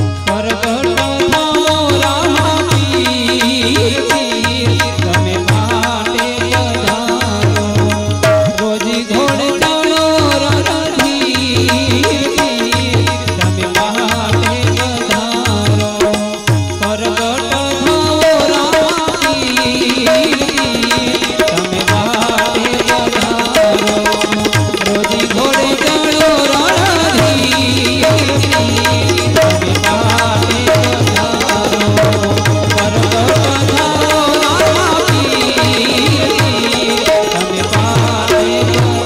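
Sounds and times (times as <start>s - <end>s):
harmonium melody: 0.0s - 39.0s
tabla beat: 0.0s - 39.0s.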